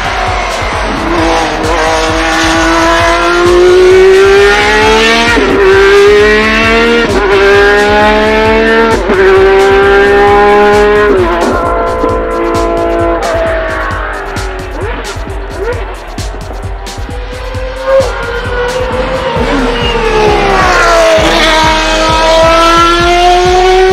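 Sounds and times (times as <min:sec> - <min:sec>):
racing engine accelerating: 0:00.0 - 0:23.9.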